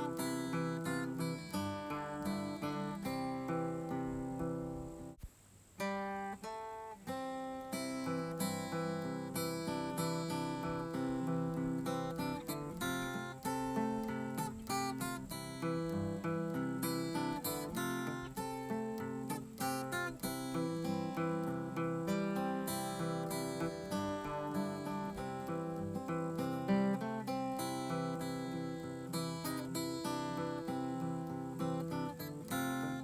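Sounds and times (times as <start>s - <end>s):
acoustic guitar strumming: 0.0s - 5.2s, 5.8s - 33.0s.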